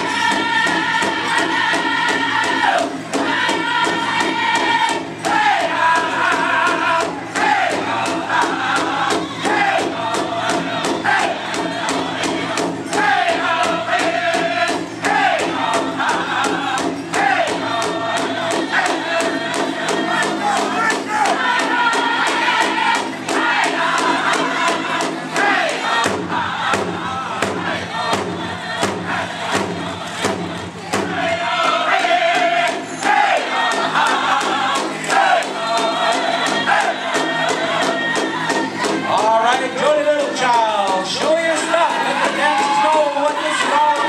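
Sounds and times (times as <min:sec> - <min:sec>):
big drum beating steadily: 0:00.0 - 0:44.0
chorus of high voices singing: 0:00.0 - 0:44.0.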